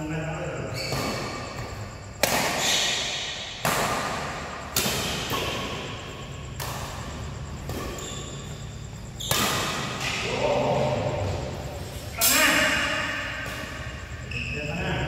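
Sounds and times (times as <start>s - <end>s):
racket hitting shuttlecock: 0.7s - 11.6s, 12.2s - 14.2s.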